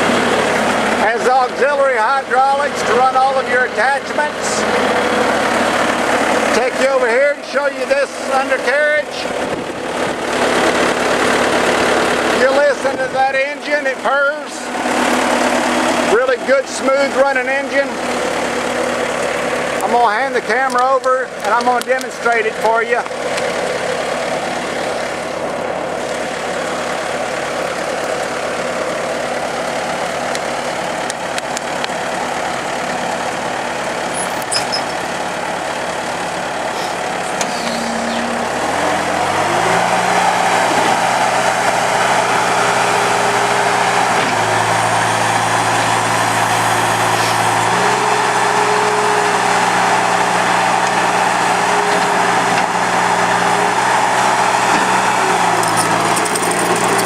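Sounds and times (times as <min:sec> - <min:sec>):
diesel engine running and revving: 0:00.0 - 0:57.0.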